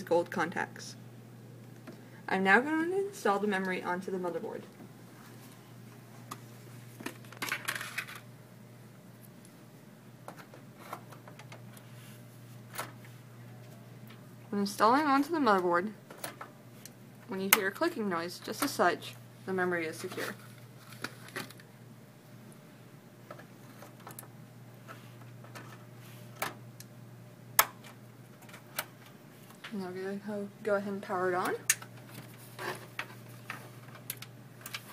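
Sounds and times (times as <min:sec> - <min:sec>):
faint low hum: 0:00.0 - 0:34.9.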